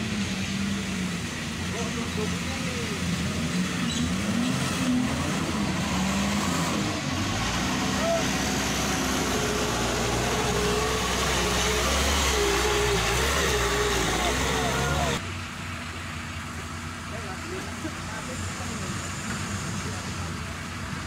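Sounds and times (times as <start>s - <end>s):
truck engine rumbling in mud: 0.0s - 21.0s.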